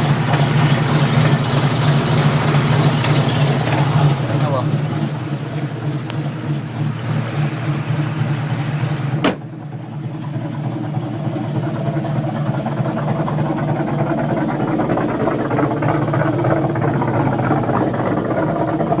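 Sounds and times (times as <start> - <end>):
car engine idling: 0.0 - 19.0
exhaust leaking: 0.0 - 19.0.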